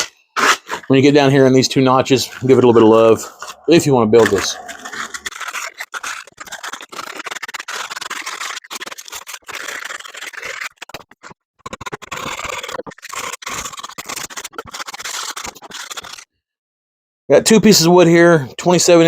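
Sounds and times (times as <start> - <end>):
sandpaper rubbing wood: 0.0 - 16.3.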